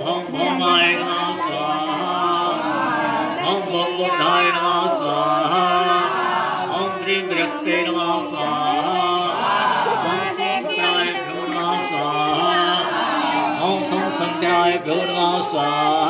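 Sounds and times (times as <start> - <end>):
man chanting mantras: 0.0 - 16.0.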